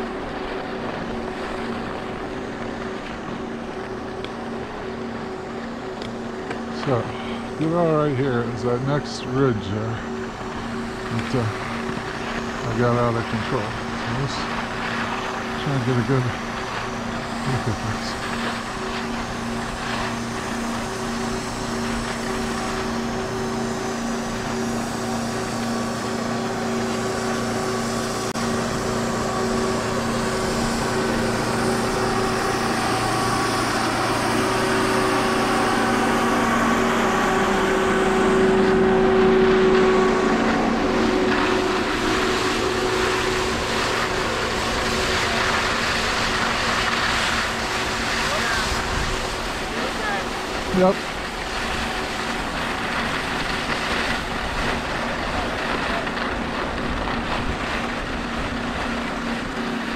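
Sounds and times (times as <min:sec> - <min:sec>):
skis sliding over snow: 0:00.0 - 0:59.9
steady hum: 0:00.0 - 0:59.9.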